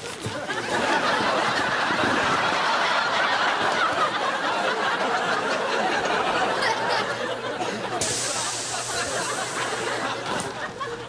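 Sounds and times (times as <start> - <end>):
audience laughing: 0.2 - 11.0.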